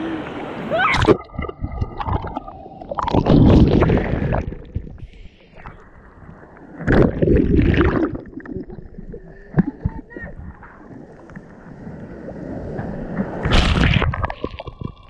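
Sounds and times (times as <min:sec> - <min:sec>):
ocean surf sloshing: 0:00.0 - 0:14.9
surges of churning water: 0:00.0 - 0:15.0.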